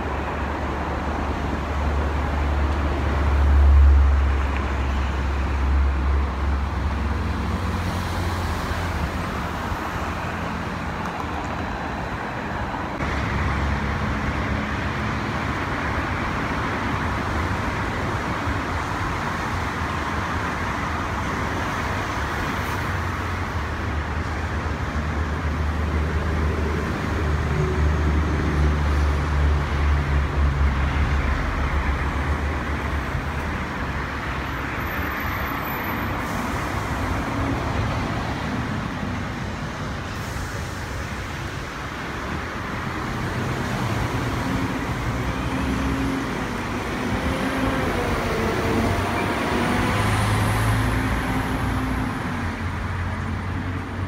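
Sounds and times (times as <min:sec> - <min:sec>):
engine and traffic rumble: 0:00.0 - 0:54.0.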